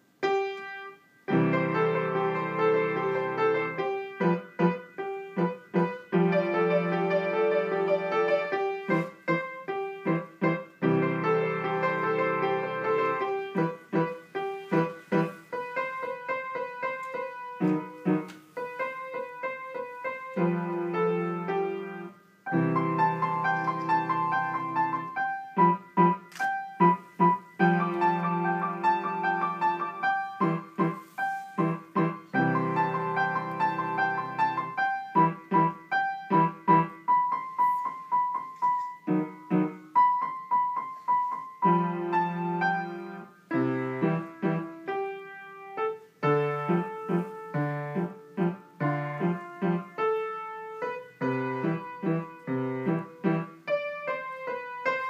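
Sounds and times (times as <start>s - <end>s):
upright piano melody: 0.0s - 55.0s.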